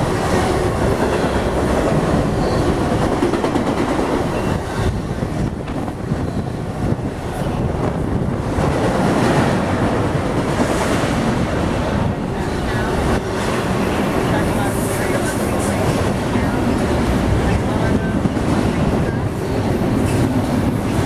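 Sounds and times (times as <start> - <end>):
train wheels rushing on rail: 0.0 - 21.0
wind buffeting microphone: 0.0 - 21.0.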